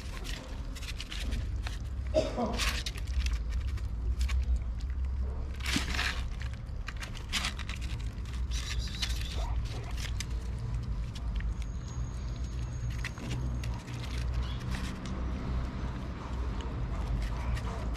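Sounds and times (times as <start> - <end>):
cats chewing and lapping: 0.0 - 17.9
low steady rumble: 0.0 - 17.9.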